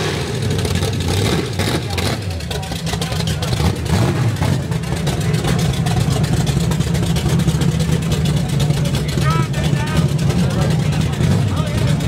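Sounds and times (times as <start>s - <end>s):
car engine idling loudly: 0.0s - 12.0s.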